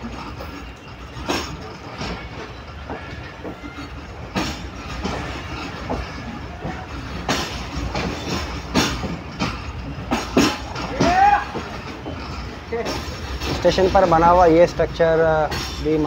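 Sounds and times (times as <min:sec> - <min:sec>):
train wheels rumbling: 0:00.0 - 0:16.0
wheels clacking over rail joints: 0:00.0 - 0:16.0.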